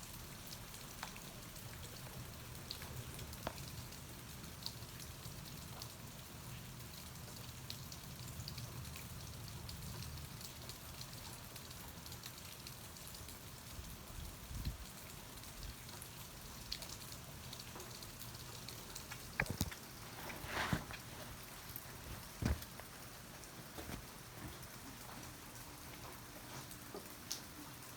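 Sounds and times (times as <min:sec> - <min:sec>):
close raindrops ticking: 0:00.0 - 0:27.9
steady rain falling: 0:00.0 - 0:27.9.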